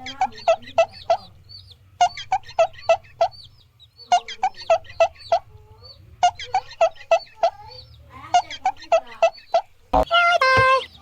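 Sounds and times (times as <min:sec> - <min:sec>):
chicken clucking: 0:00.0 - 0:11.0.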